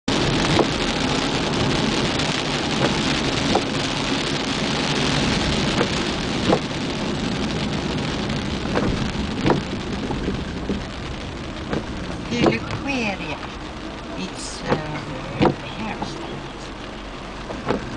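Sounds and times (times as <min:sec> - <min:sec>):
windshield wipers knocking: 0:00.1 - 0:13.0, 0:14.6 - 0:16.5, 0:17.4 - 0:17.9
rain and wet tyres hissing: 0:00.1 - 0:17.9.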